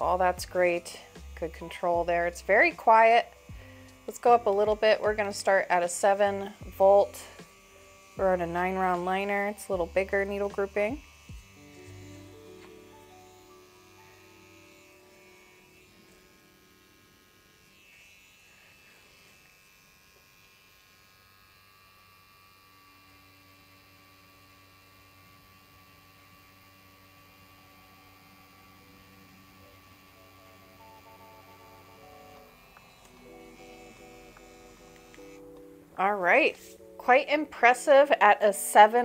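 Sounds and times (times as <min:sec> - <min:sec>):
tattoo pen motor hum: 0:00.0 - 0:37.8.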